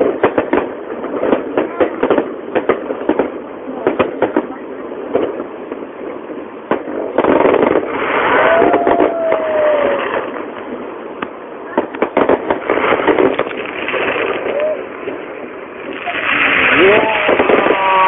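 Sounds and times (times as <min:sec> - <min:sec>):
fireworks bursting with bangs: 0:00.0 - 0:18.0
fireworks crackling: 0:00.0 - 0:18.0.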